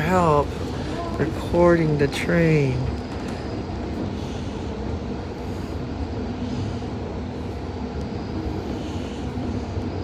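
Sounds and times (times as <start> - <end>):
rumble of train wheels on track: 0.0 - 10.0.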